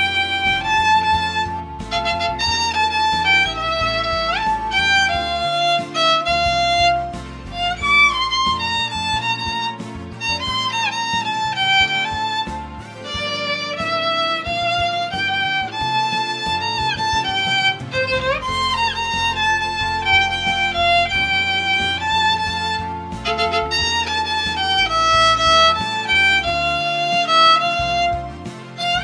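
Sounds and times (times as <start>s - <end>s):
backing track bass: 0.0s - 29.0s
violin melody: 0.0s - 29.0s.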